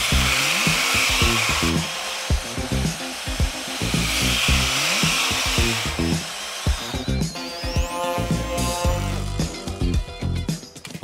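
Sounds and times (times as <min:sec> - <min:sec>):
band saw cutting metal sheet: 0:00.0 - 0:10.0
background music with steady beat: 0:00.0 - 0:11.0.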